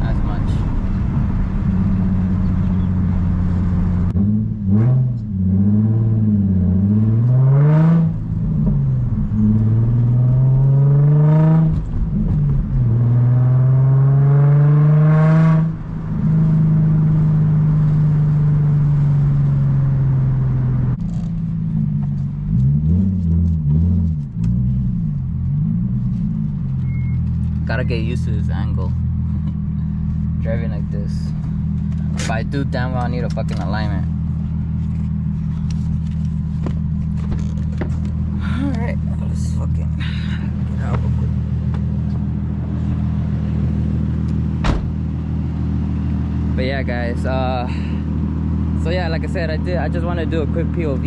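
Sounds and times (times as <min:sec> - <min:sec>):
car exhaust accelerating and revving: 0:00.0 - 0:51.0.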